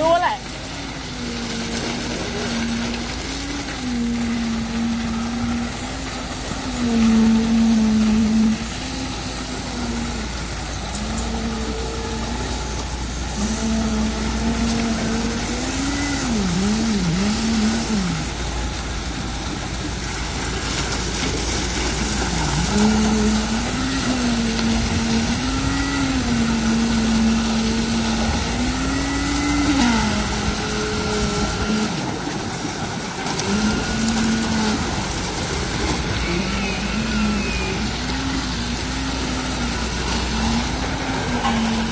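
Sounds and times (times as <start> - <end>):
concrete vibrator motor hum: 0.0 - 41.9
construction machinery noise: 0.0 - 41.9.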